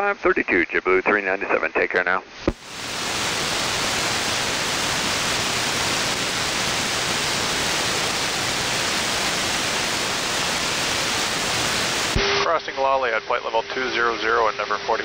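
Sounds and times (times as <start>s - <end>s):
radio static hiss: 0.2s - 15.0s.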